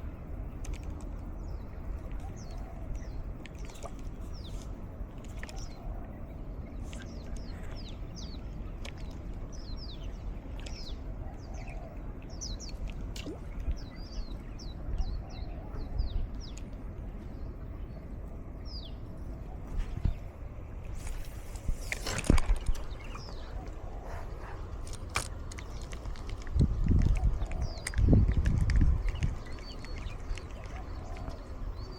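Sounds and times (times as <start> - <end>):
small birds chirping: 0.4 - 31.9.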